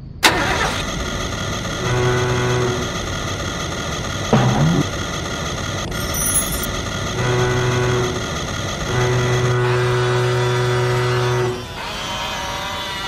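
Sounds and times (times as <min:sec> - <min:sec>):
toy truck motor humming: 0:01.0 - 0:13.0.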